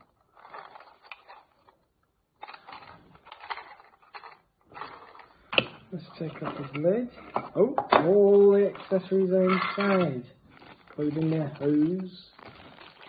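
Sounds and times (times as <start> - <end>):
plastic clicking and scraping: 0.0 - 13.0.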